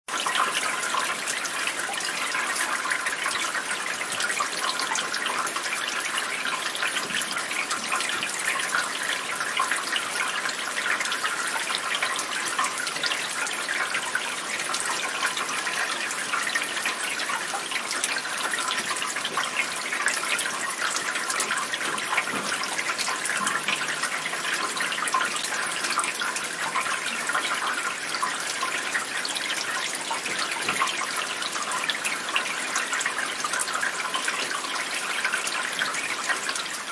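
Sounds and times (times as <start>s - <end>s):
steady rain falling: 0.1s - 36.9s.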